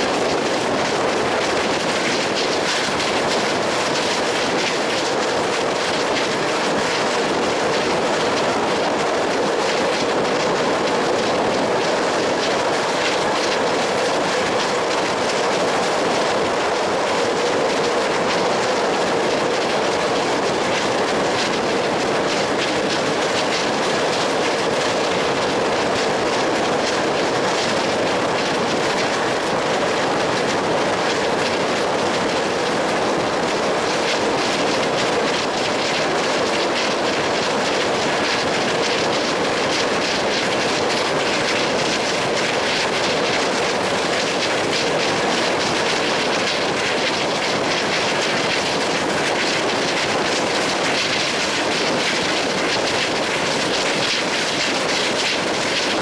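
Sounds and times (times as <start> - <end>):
train rolling along track: 0.0 - 56.0.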